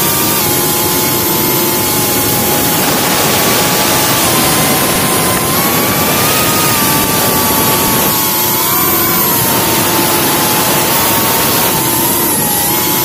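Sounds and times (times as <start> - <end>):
quadcopter motors whining: 0.0 - 13.0
wind rush: 0.0 - 13.0.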